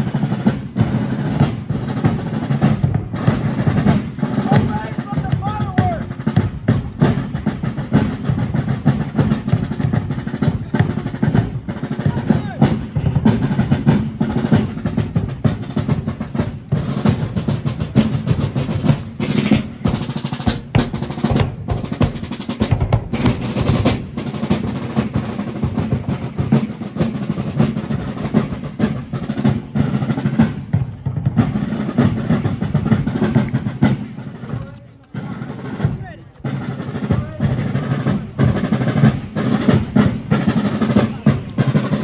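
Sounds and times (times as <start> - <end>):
snare and bass drums marching cadence: 0.0 - 42.0.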